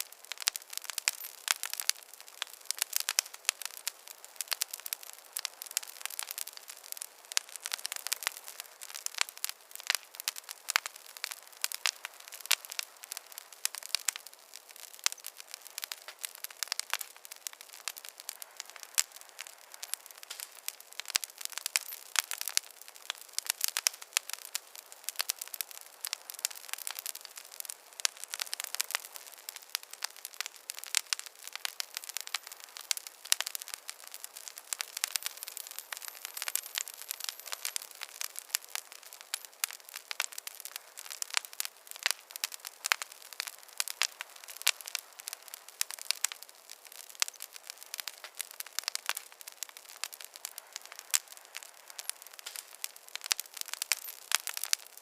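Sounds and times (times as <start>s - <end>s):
faint hiss: 0.0s - 55.0s
fire crackling: 0.0s - 55.0s.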